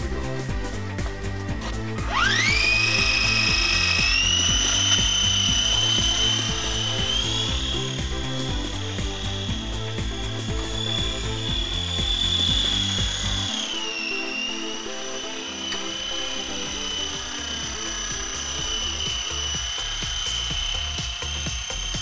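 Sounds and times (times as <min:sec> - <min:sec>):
background music: 0:00.0 - 0:22.0
rc helicopter motor whining: 0:00.0 - 0:22.0.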